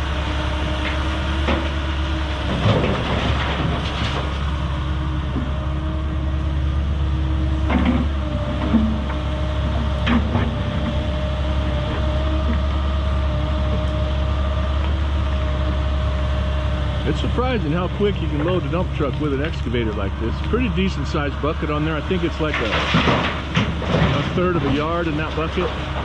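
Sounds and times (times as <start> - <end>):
excavator engine running: 0.0 - 26.0.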